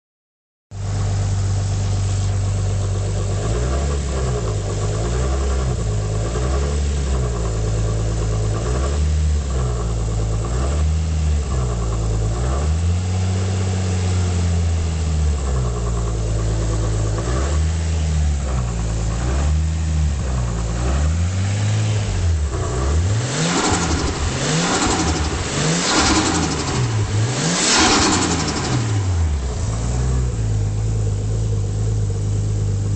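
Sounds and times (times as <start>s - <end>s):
car engine idling and revving: 0.7s - 32.9s.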